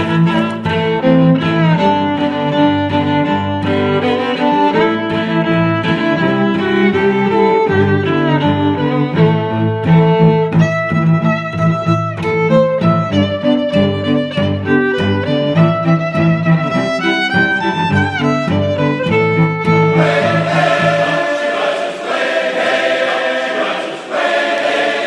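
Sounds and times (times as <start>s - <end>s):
bowed strings music: 0.0s - 25.0s.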